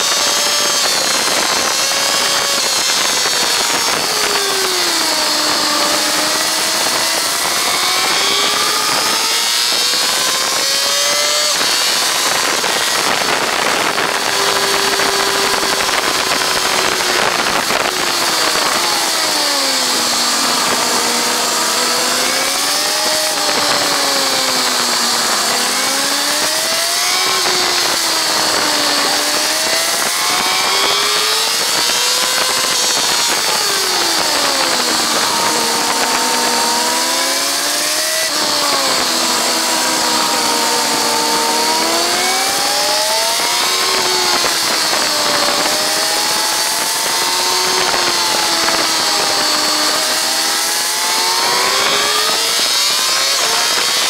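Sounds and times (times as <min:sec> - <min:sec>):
motorcycle engine accelerating: 0:00.0 - 0:54.0
wind rushing over microphone: 0:00.0 - 0:54.0.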